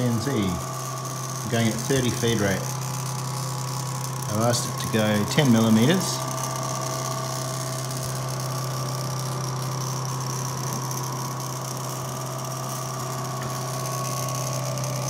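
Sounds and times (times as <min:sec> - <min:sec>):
stepper motor humming and whining: 0:00.0 - 0:15.0.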